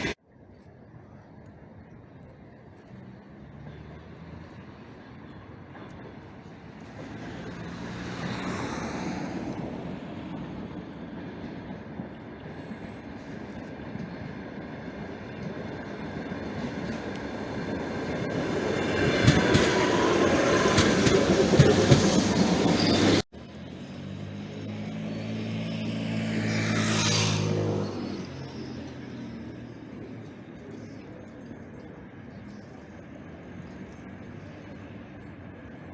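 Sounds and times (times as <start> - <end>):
train passing on rails: 0.0 - 0.2, 0.9 - 35.9.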